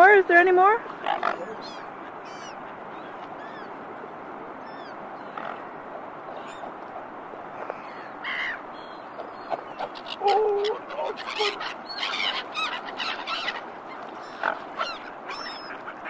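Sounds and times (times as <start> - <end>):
steady background hiss: 0.0 - 16.0
gulls and ducks calling: 0.9 - 3.8, 4.6 - 6.7, 7.6 - 16.0.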